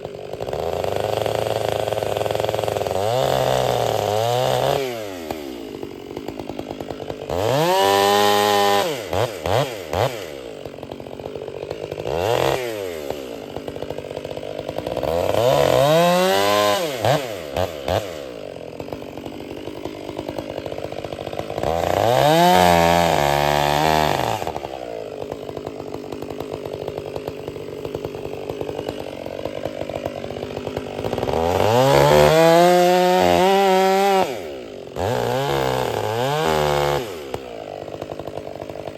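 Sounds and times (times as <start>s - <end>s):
chainsaw idling: 0.0s - 38.9s
chainsaw revving: 0.0s - 38.9s.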